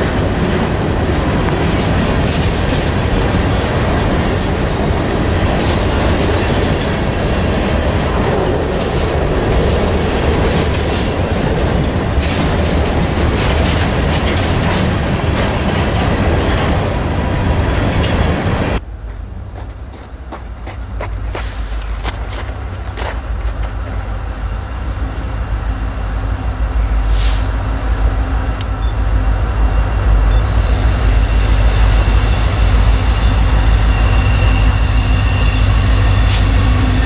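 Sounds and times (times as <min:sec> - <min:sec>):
steel wheels on rails: 0:00.0 - 0:25.6, 0:26.7 - 0:37.0.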